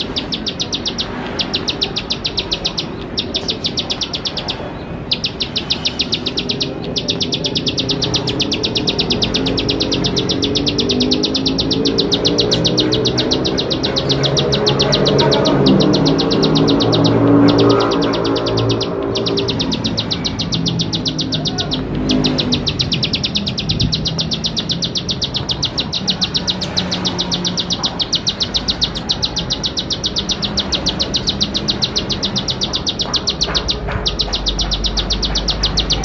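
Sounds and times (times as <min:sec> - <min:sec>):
bird clicking trill: 0:00.0 - 0:36.0
background music low tones: 0:05.1 - 0:36.0.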